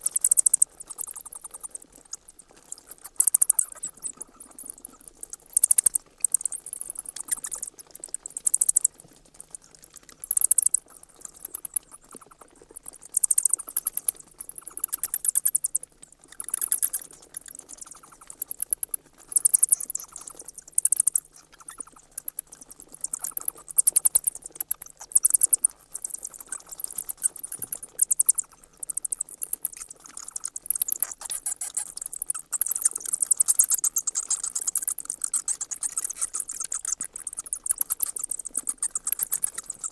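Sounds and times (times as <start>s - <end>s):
bats squeaking: 0.0s - 39.9s.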